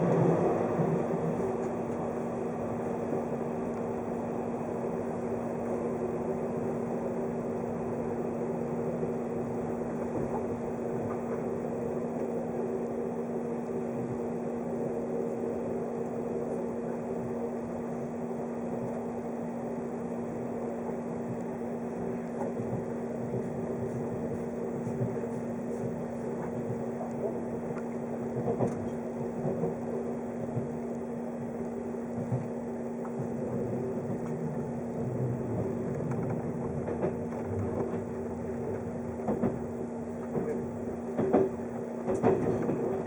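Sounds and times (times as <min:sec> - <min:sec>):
electric train interior hum: 0:00.0 - 0:43.0.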